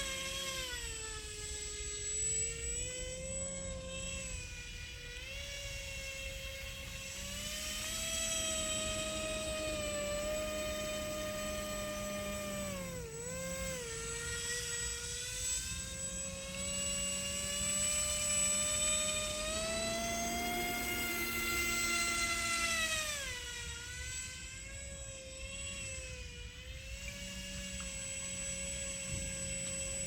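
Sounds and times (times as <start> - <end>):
airboat motor and propeller whining: 0.0 - 30.0.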